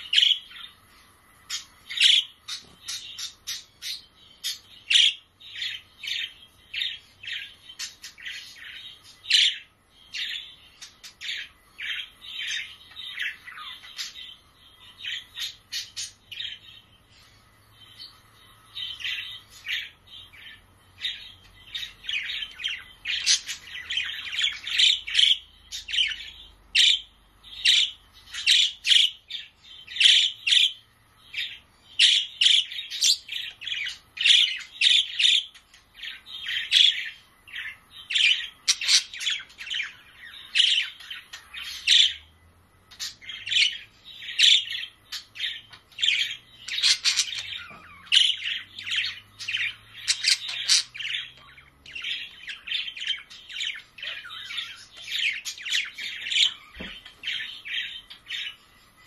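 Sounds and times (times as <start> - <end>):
budgerigars chirping: 0.0 - 0.8, 1.4 - 17.0, 17.8 - 59.0.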